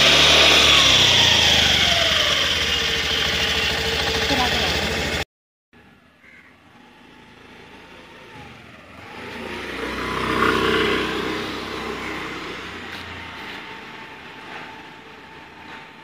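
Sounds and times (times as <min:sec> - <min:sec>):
scooter engine riding past: 0:00.0 - 0:05.2, 0:05.8 - 0:16.0.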